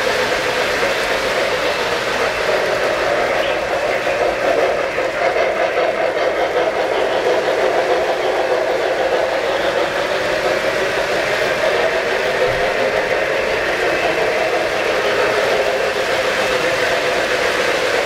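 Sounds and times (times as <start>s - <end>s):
model trains rumbling on track: 0.0s - 18.0s.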